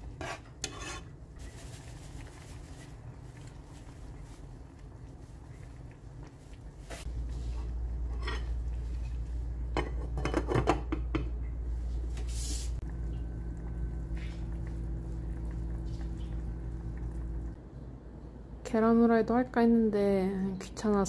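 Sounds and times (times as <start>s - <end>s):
steady low hum: 0.0s - 19.5s.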